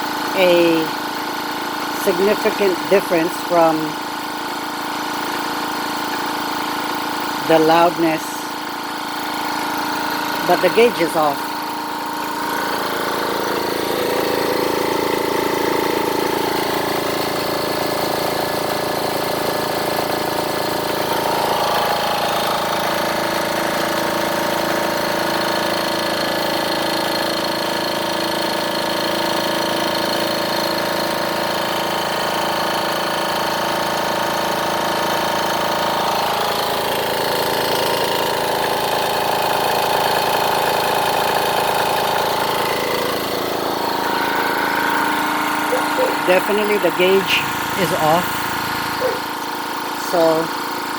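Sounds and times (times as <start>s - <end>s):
air compressor running: 0.0s - 50.9s.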